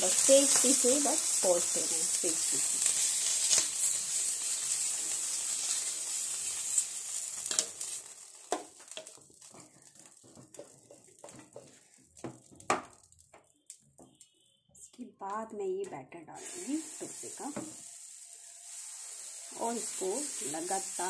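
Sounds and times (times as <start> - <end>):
oil and water sizzling on a pan: 0.0 - 13.4, 16.4 - 21.0.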